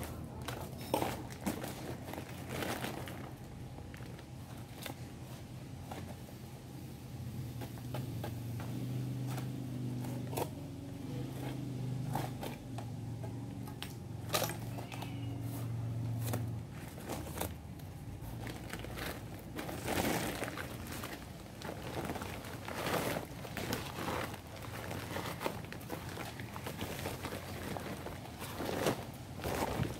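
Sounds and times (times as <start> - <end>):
low steady hum: 0.0 - 29.9
paper sack crinkling and rustling: 0.0 - 29.9.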